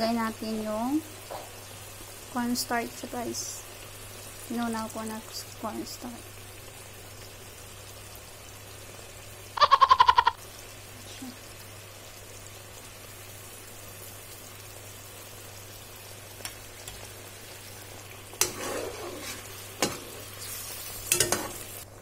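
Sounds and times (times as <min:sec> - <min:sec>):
sauce simmering with hiss: 0:00.0 - 0:22.0.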